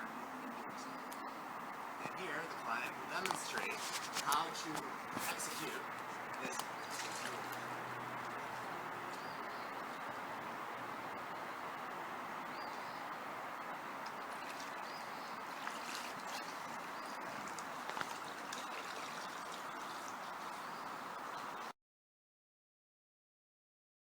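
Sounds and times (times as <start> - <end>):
rushing water: 0.0 - 21.7
kayak paddle splashes: 1.8 - 21.7.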